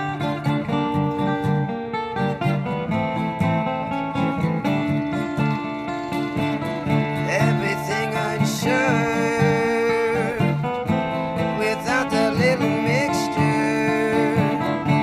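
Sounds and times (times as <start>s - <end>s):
sliding lead melody: 0.0s - 15.0s
strummed acoustic guitar: 0.0s - 15.0s.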